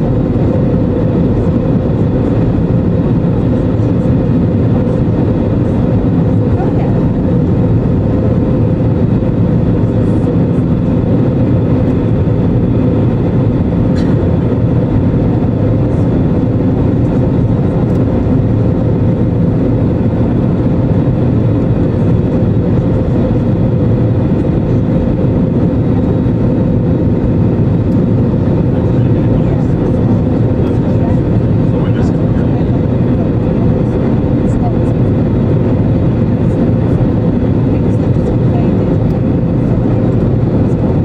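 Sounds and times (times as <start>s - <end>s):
airplane cabin engine noise: 0.0s - 41.0s.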